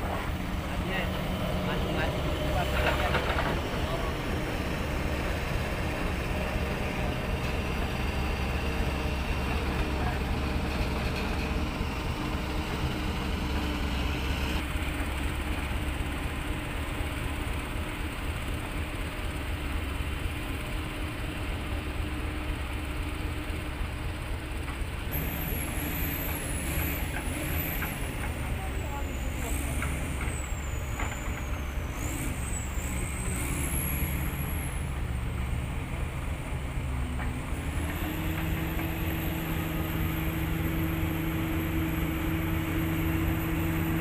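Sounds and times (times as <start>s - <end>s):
crawler excavator running: 0.0s - 44.0s
logging truck diesel rumble: 0.0s - 44.0s.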